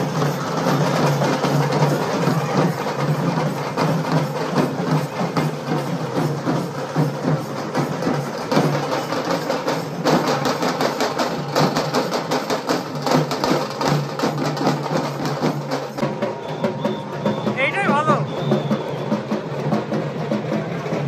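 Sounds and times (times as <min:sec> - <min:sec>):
fast drumming: 0:00.0 - 0:21.0.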